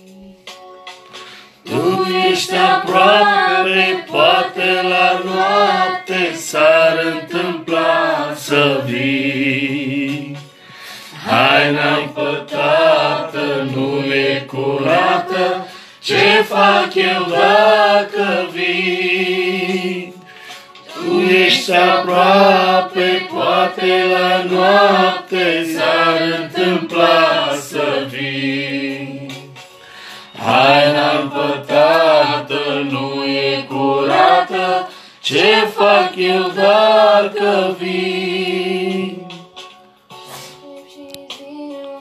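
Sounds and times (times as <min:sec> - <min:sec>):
women singing a hymn: 0:01.7 - 0:10.5, 0:11.1 - 0:29.4, 0:30.4 - 0:39.4.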